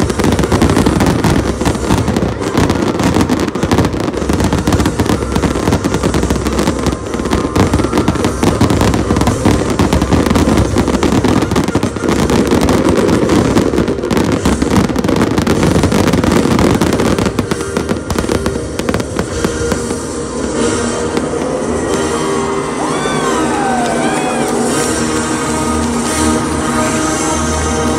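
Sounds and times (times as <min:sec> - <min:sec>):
fireworks cracks and booms: 0:00.0 - 0:27.9.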